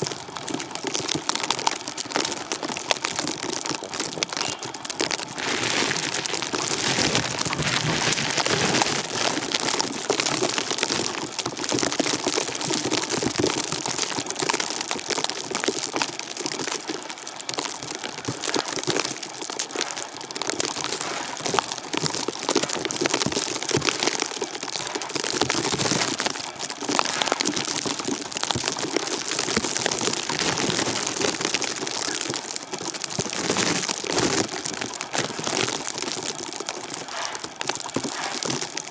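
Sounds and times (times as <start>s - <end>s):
blizzard snow pattering and crackling: 0.0s - 38.9s.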